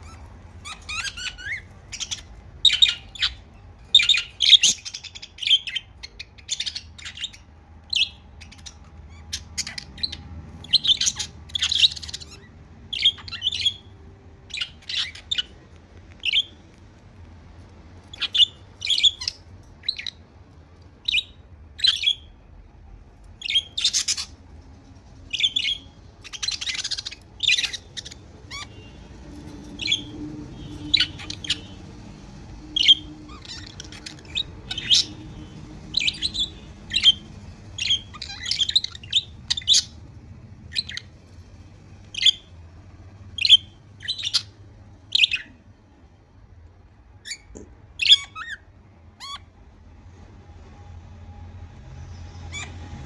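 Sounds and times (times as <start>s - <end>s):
budgerigars chirping: 0.0s - 16.8s, 18.0s - 20.3s, 21.0s - 22.4s, 23.4s - 24.4s, 25.2s - 41.2s, 42.0s - 42.6s, 43.3s - 45.6s, 47.2s - 49.5s, 52.3s - 52.8s.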